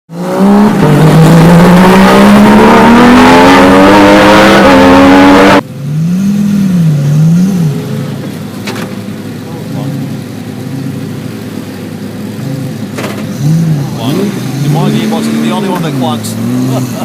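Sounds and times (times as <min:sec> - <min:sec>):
loud sports car engine: 0:00.1 - 0:17.0
quieter engine: 0:00.1 - 0:17.0.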